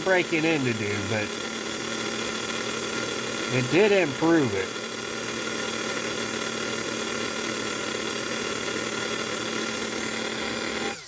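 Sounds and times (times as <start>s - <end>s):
small electric motor running: 0.0s - 11.0s.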